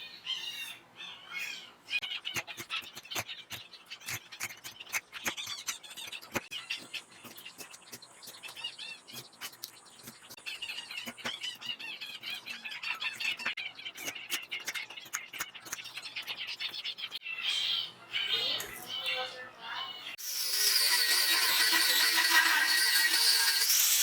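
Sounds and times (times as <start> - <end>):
birds chirping rapidly: 0.0 - 20.2.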